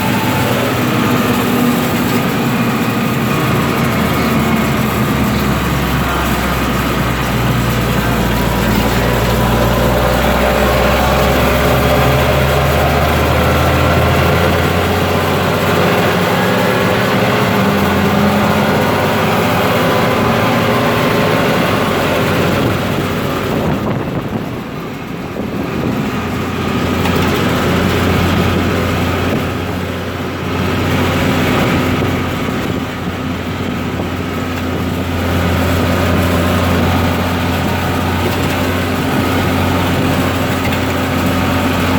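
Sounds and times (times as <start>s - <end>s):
tractor diesel engine hum: 0.0s - 41.9s.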